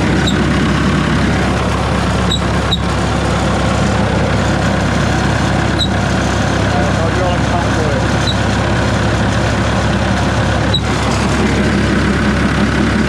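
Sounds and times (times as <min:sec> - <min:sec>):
hydraulic pump working: 0:00.0 - 0:13.0
wood chipper engine droning: 0:00.0 - 0:13.0.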